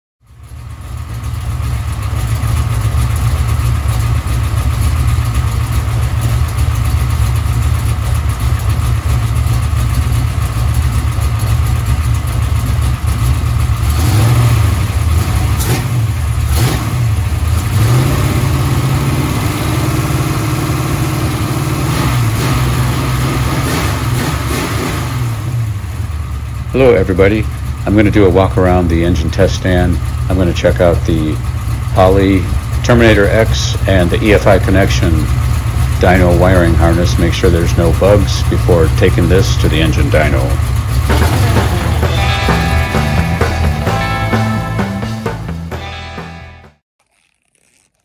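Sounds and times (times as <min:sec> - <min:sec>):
engine low rumble: 0:00.2 - 0:46.7
engine sharp cracks: 0:01.0 - 0:25.7, 0:27.4 - 0:45.8.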